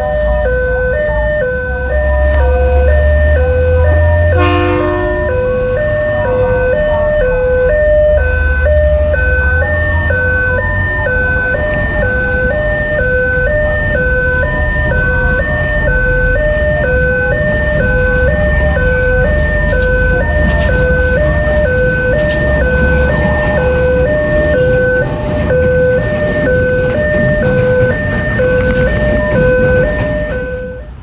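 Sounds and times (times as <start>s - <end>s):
two-tone crossing alarm: 0.0s - 31.0s.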